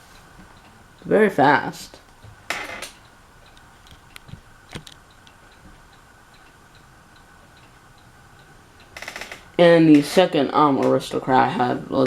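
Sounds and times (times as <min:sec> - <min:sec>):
ceiling fan humming: 0:00.0 - 0:12.0
fan ticking: 0:00.0 - 0:12.0.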